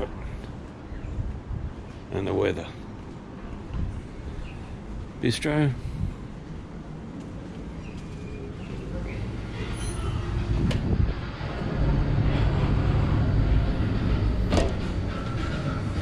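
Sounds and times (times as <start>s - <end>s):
low mechanical rumble and hum: 2.9s - 16.0s.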